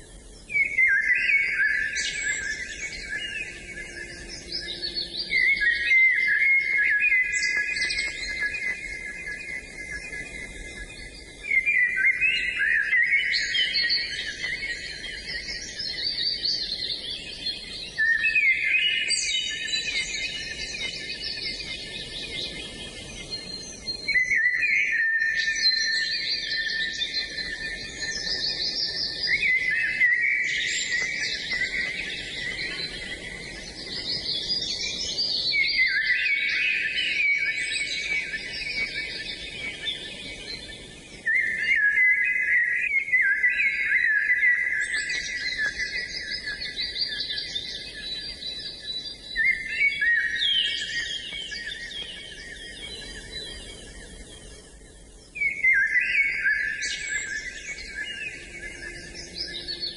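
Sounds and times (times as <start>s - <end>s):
songbirds warbling: 0.0s - 59.9s.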